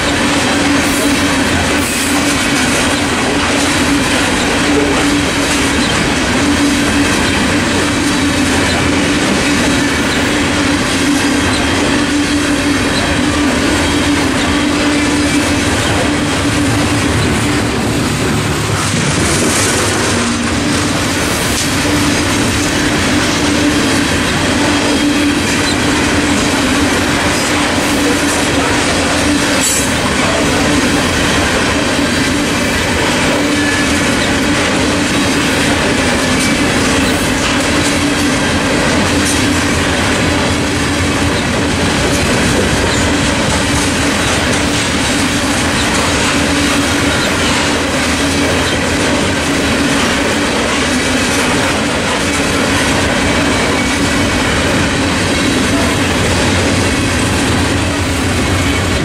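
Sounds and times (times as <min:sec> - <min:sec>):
crossing bell ringing: 0:00.0 - 0:59.0
train wheels rumbling and clacking: 0:00.0 - 0:59.0.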